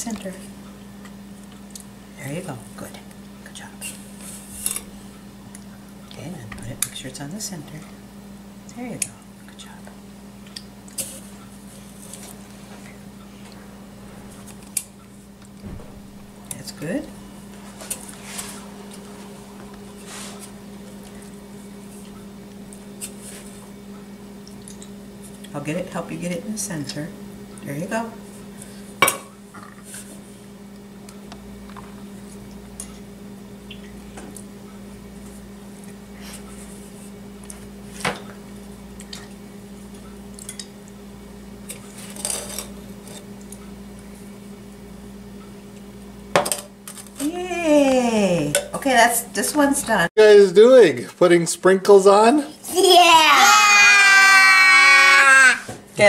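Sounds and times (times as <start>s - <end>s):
steady low hum: 0.0s - 53.7s.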